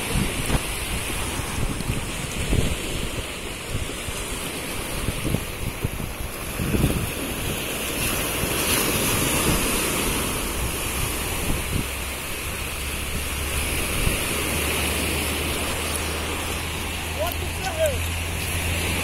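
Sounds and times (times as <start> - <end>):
surf washing up sand: 0.0 - 19.0.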